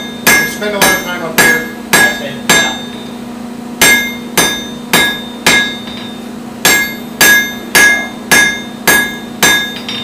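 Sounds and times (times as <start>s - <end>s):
hammer striking metal on anvil: 0.0s - 3.1s, 3.8s - 10.0s
steady hum: 0.0s - 10.0s.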